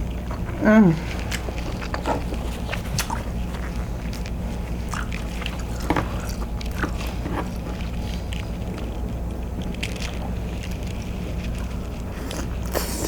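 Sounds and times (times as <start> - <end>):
steady low hum: 0.0 - 13.0
wet chewing and lip smacks: 1.2 - 13.0.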